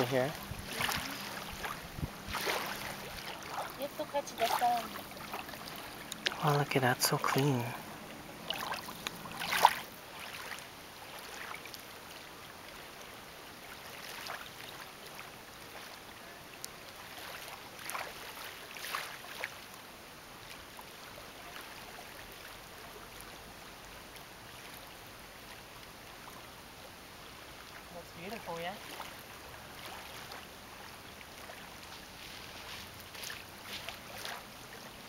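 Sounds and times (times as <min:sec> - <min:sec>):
small waves lapping on gravel: 0:00.0 - 0:26.5, 0:27.2 - 0:35.0
soft splashes: 0:00.0 - 0:35.0.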